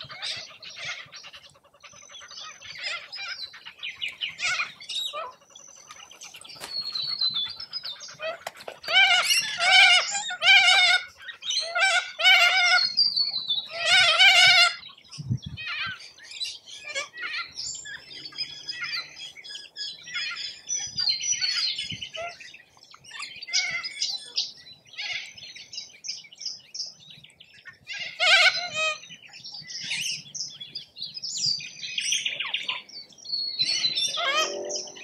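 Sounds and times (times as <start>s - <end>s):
birds screeching harshly: 0.0s - 22.5s, 23.1s - 25.4s, 27.7s - 30.3s, 31.8s - 35.0s
birds chirping and twittering: 0.0s - 35.0s.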